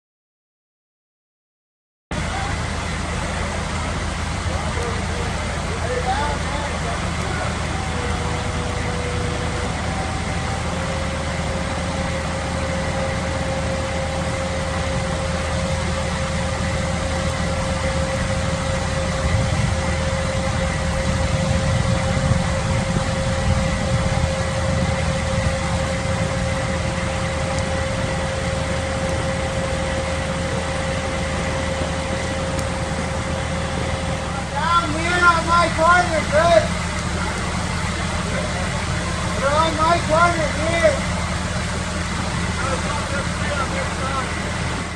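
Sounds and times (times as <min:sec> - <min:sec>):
diesel engine rumbling: 0:02.1 - 0:44.9
steady whining tone: 0:02.1 - 0:44.9.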